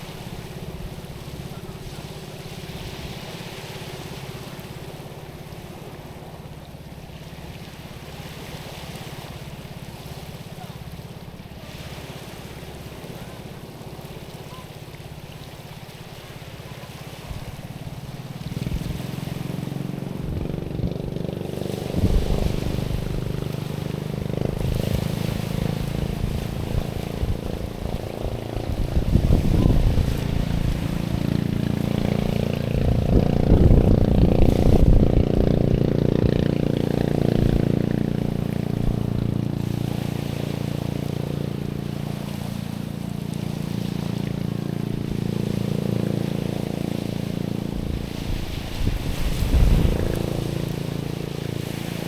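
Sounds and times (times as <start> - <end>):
engine drone: 0.0 - 52.0
waves washing over stones: 0.0 - 52.0.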